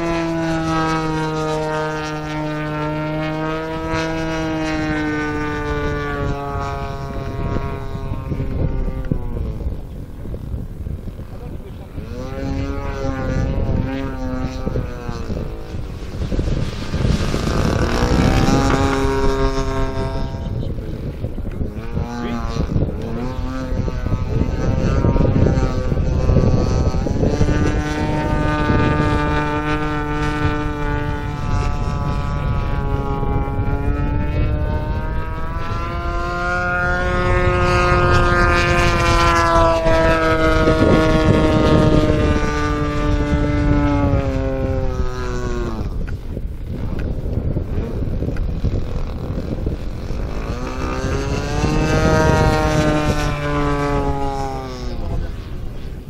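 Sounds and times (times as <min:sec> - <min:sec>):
model plane engine drone: 0:00.0 - 0:56.0
wind rumble on microphone: 0:00.0 - 0:56.0.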